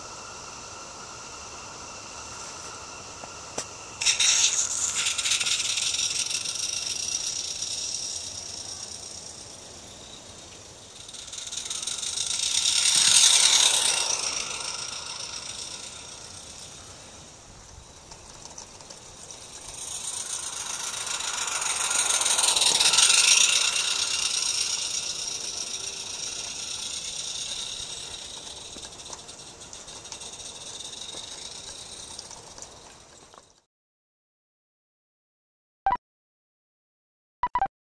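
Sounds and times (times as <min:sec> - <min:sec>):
model steam locomotive chuffing: 0:00.0 - 0:33.6.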